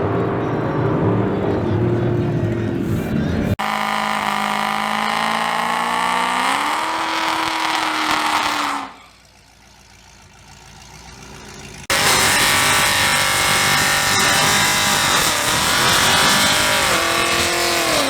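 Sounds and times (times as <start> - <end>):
race car engine at full throttle: 0.0 - 18.0.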